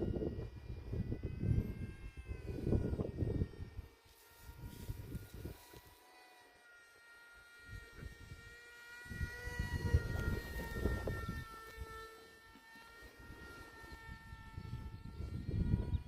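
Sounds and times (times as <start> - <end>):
wind rumbling on microphone: 0.0 - 5.9, 7.6 - 12.4, 13.0 - 16.0
electric motor whine: 0.0 - 16.0.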